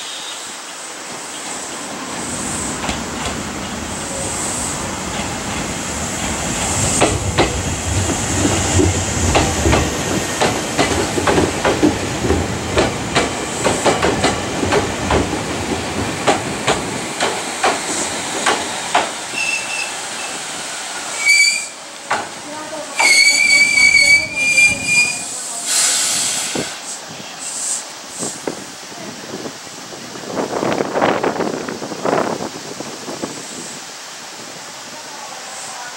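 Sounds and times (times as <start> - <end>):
train wheels rumbling on rail: 0.9 - 35.9.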